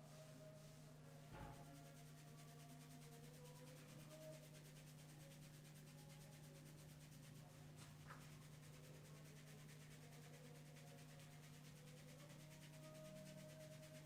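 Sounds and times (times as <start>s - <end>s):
hands rubbing hair: 1.6s - 14.0s.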